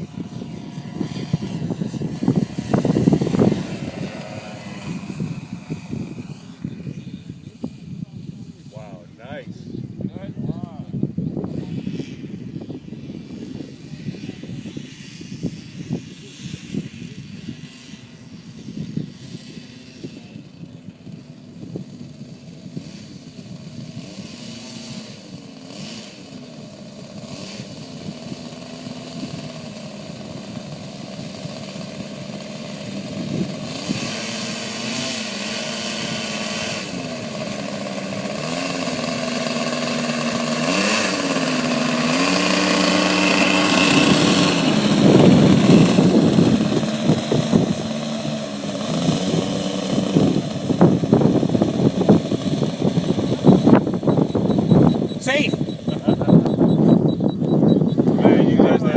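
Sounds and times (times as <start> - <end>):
model plane engines: 0.0 - 58.9.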